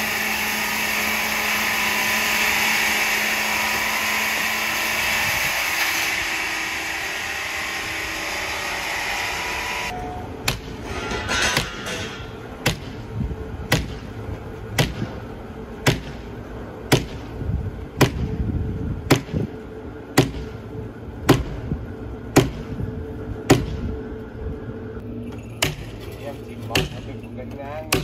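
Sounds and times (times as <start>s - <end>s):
woodworking machinery humming: 0.0s - 28.0s.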